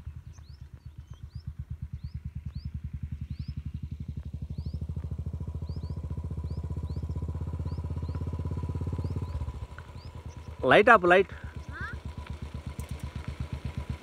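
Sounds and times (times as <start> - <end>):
rising bird chirps: 0.0 - 10.8, 11.4 - 12.2
motorcycle exhaust beat: 0.0 - 14.0.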